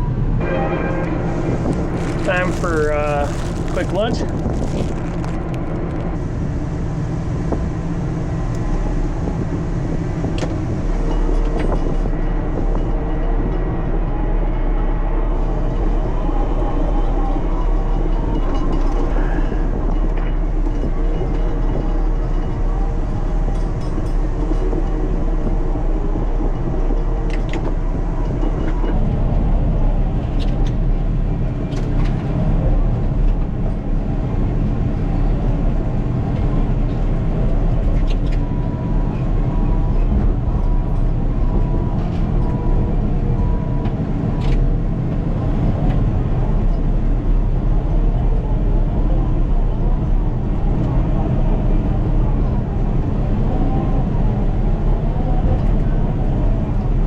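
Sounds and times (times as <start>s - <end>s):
bulldozer diesel drone: 0.0s - 57.0s.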